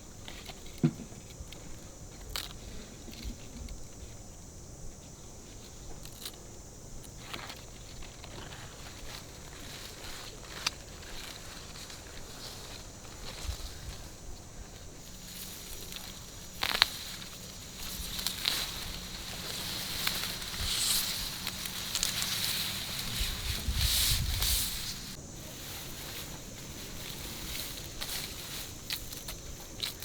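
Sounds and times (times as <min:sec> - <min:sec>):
rustling and handling noises: 0:05.0 - 0:30.0.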